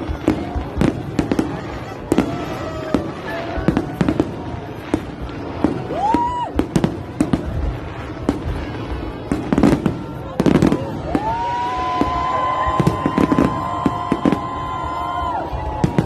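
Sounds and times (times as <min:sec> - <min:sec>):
fireworks bangs: 0:00.0 - 0:16.0
fireworks whistles rising: 0:00.0 - 0:16.0.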